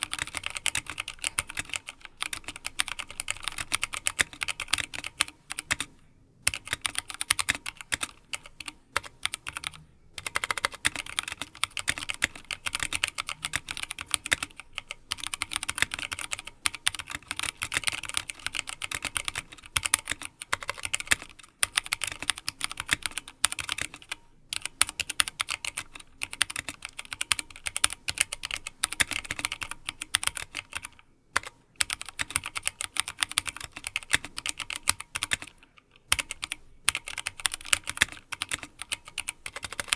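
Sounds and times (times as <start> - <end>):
fast mechanical keyboard typing: 0.0 - 5.9, 6.5 - 39.9.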